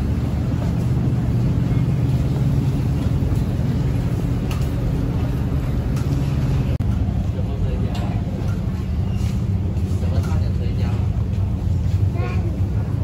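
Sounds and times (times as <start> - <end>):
metro train rumble: 0.0 - 13.0.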